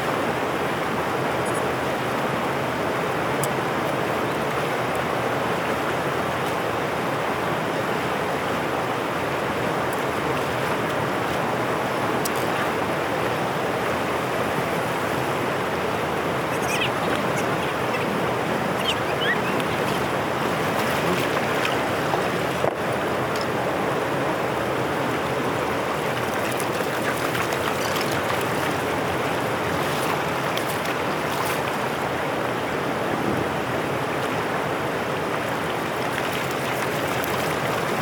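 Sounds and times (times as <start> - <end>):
water rushing through channel: 0.0 - 38.0.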